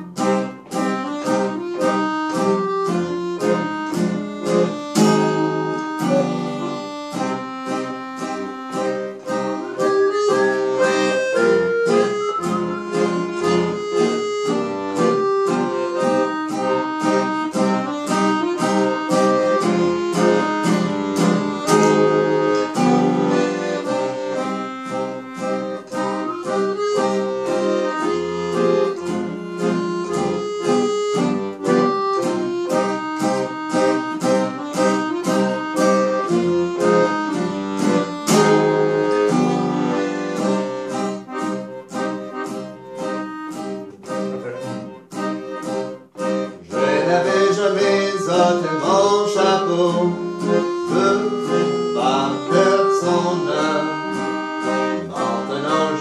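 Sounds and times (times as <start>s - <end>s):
piano accordion playing: 0.0s - 56.0s
strummed acoustic guitar: 0.0s - 56.0s.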